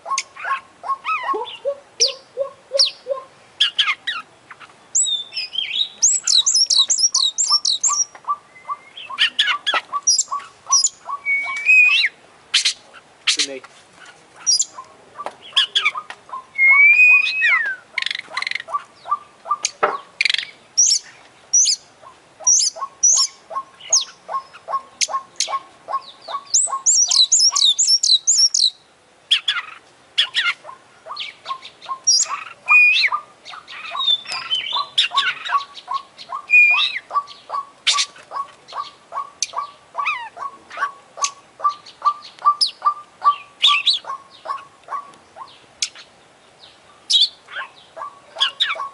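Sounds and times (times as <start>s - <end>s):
songbird singing varied song: 0.0s - 48.9s.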